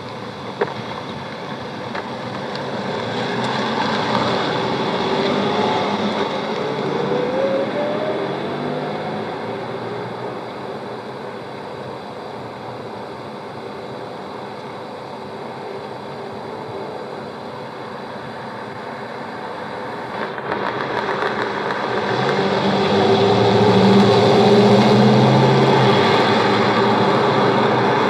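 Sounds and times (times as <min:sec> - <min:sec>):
muffled motor vehicle hum: 0:00.0 - 0:28.0
tape hiss: 0:00.0 - 0:28.0.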